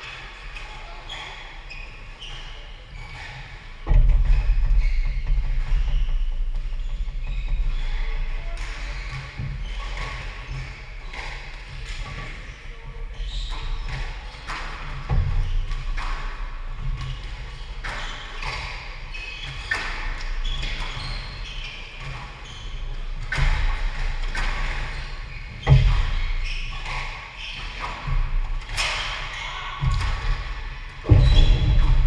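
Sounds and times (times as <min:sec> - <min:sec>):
shoes squeaking: 0:00.0 - 0:32.0
squash ball hitting rackets and walls: 0:02.3 - 0:32.0.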